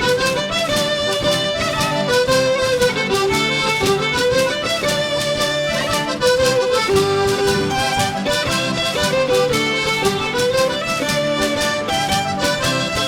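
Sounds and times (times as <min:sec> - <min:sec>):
folk band playing: 0:00.0 - 0:13.0.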